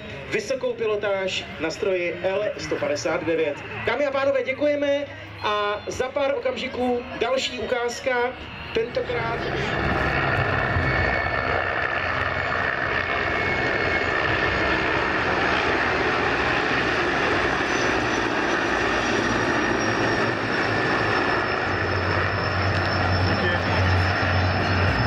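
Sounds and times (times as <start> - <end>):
helicopters flying past: 0.0 - 25.0.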